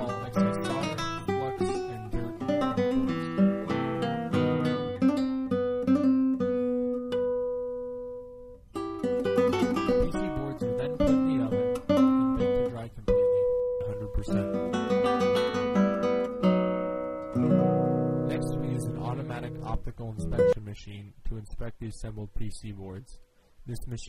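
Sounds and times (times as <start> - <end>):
acoustic guitar playing: 0.0 - 20.6.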